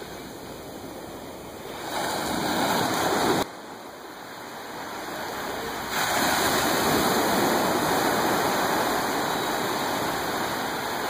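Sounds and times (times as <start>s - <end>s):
ocean waves breaking: 0.0s - 11.0s.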